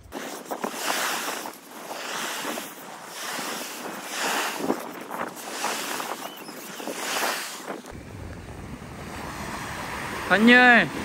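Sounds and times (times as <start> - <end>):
waves washing on beach: 0.0 - 11.0.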